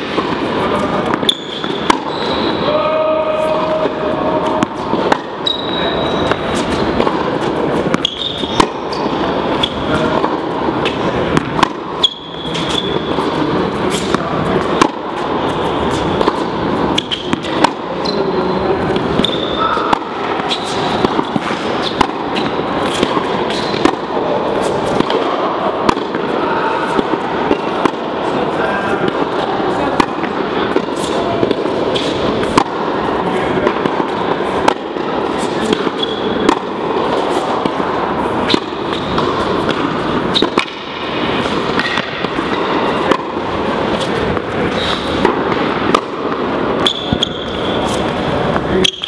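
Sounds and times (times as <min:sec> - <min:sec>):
tennis ball hits and bounces: 0:00.0 - 0:02.2, 0:03.8 - 0:18.2, 0:18.8 - 0:28.2, 0:29.0 - 0:49.0
shoes squeaking on court: 0:00.0 - 0:02.7, 0:04.4 - 0:27.8, 0:28.8 - 0:49.0.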